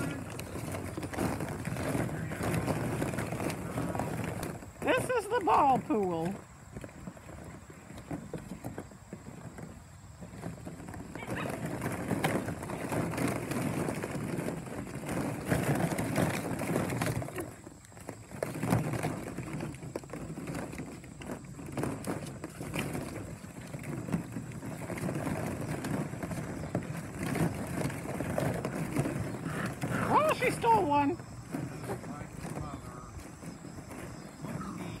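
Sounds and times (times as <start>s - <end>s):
plastic balls clattering: 0.0s - 35.0s.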